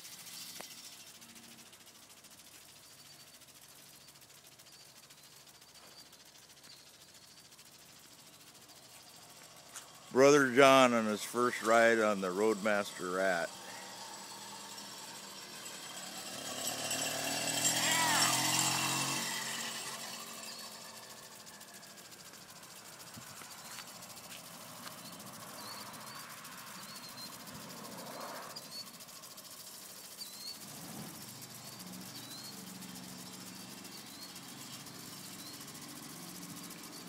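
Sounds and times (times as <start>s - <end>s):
small motorbike engine: 0.0s - 37.0s
bird chirps: 2.6s - 21.6s, 23.4s - 29.3s, 29.9s - 37.0s.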